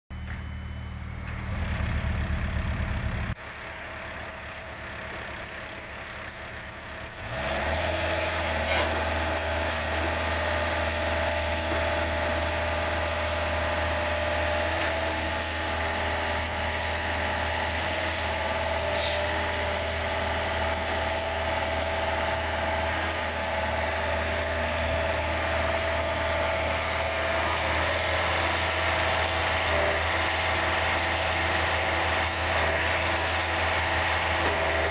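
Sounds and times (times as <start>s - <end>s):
mini excavator diesel engine running: 0.1s - 34.9s.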